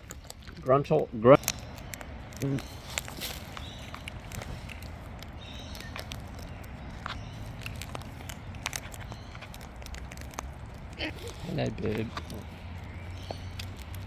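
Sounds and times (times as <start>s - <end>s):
birds clicking and tapping: 0.0s - 14.0s
low steady rumble: 0.0s - 14.0s.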